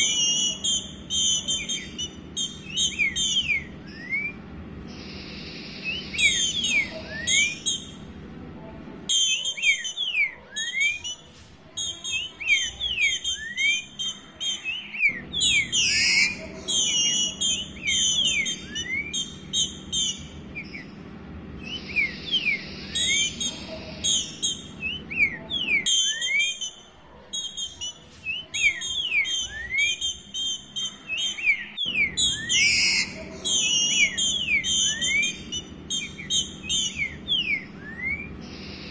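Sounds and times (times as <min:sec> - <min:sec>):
bird whistled calls: 0:00.0 - 0:08.1, 0:09.1 - 0:21.0, 0:21.6 - 0:38.9
bird twittering: 0:00.0 - 0:08.2, 0:09.0 - 0:38.9.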